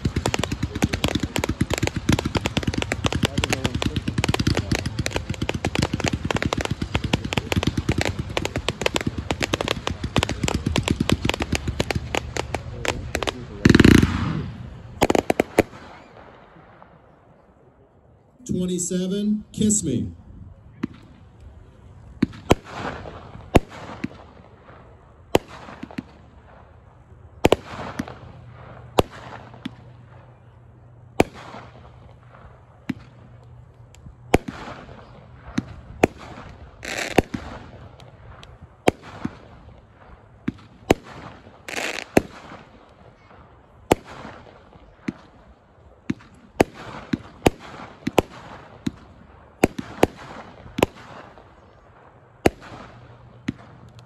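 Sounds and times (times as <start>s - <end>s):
firework bangs with hiss: 0.0s - 16.4s, 22.2s - 26.8s, 27.4s - 29.9s, 31.2s - 33.4s, 34.3s - 54.0s.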